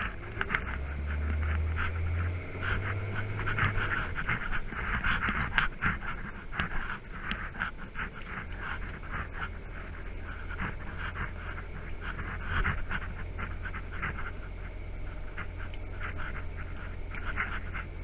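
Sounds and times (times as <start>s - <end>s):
truck engine drone: 0.0s - 18.0s.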